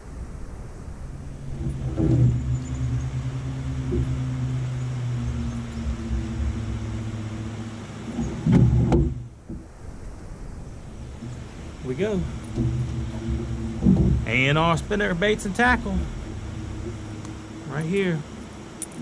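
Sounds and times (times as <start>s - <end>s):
boat motor humming: 0.0s - 19.0s
clatter in a boat: 1.3s - 10.0s, 10.8s - 19.0s
sharp knocks: 1.4s - 9.7s, 11.0s - 19.0s.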